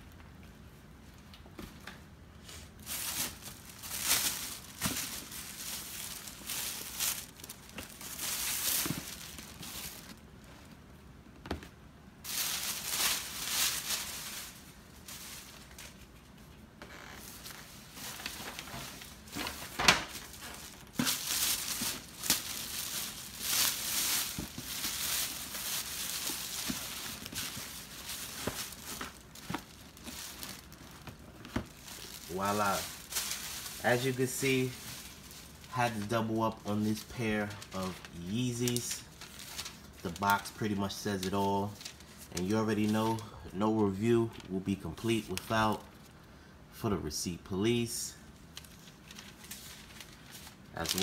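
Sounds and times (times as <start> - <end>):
plastic bag rustling: 2.4 - 10.8, 12.2 - 46.1, 48.4 - 51.0.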